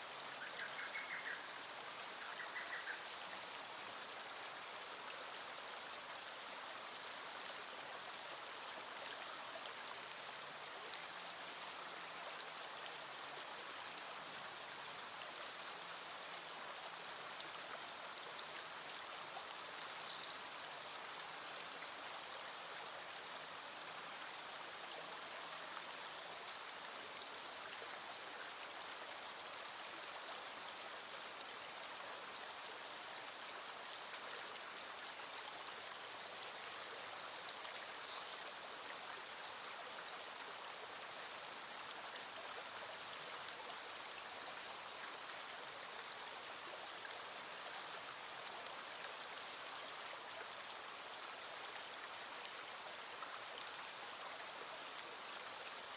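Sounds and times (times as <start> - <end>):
mountain stream flowing: 0.0 - 55.9.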